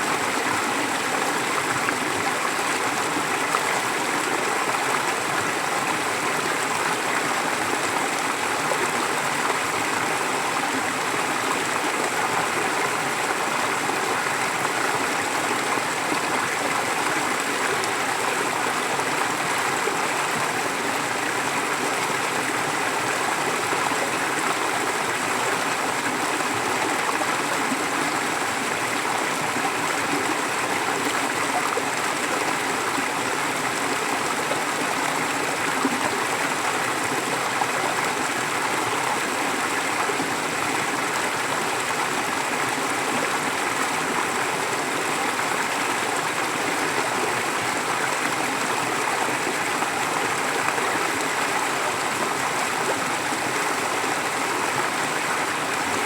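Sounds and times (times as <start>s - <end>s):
forest stream flowing: 0.0s - 56.0s.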